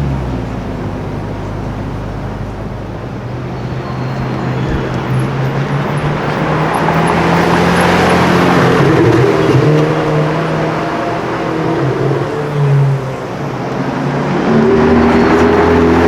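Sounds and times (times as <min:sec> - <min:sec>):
car engine droning: 0:00.0 - 0:16.0
tyre and traffic noise: 0:00.0 - 0:16.0.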